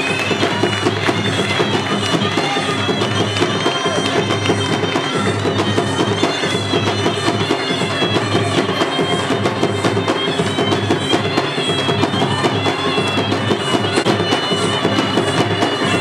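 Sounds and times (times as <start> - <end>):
fast steady drumming: 0.0 - 16.0
shrill reed pipe melody: 0.0 - 16.0.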